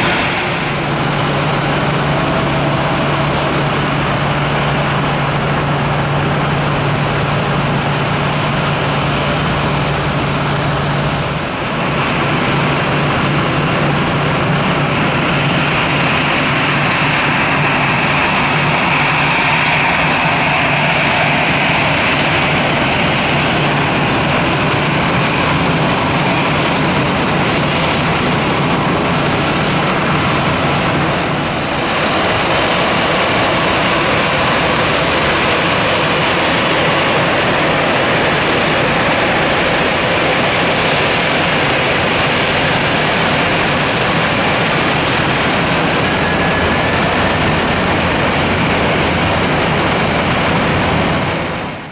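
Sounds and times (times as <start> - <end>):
jet engines running: 0.0 - 51.9.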